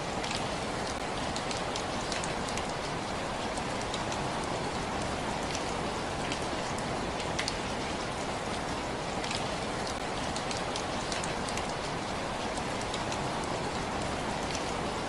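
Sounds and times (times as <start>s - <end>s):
steady rain hiss: 0.0s - 15.0s
raindrops ticking: 0.1s - 8.2s, 9.1s - 14.8s.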